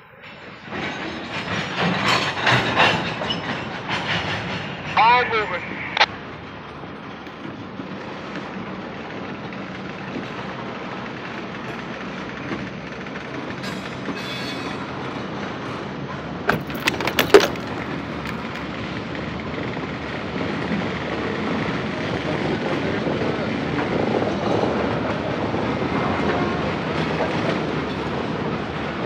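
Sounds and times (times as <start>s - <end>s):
freight cars rumbling and rattling: 0.1s - 29.0s.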